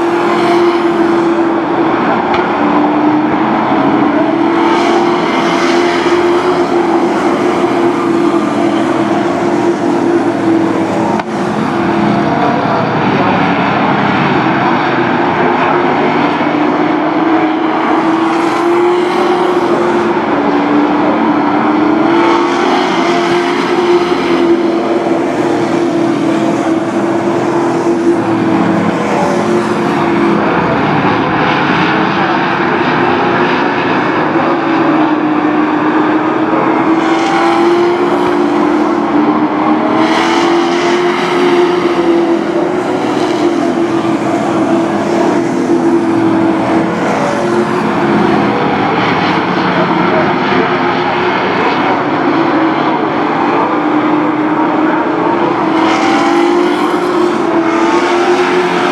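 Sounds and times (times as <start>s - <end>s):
racing truck engines: 0.0s - 58.9s
trucks passing close by: 0.0s - 58.9s.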